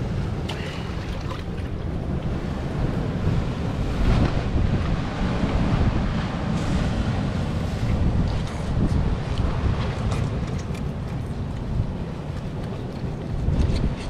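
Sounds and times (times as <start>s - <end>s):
sea surf: 0.0s - 14.0s
wind buffeting microphone: 0.0s - 14.0s.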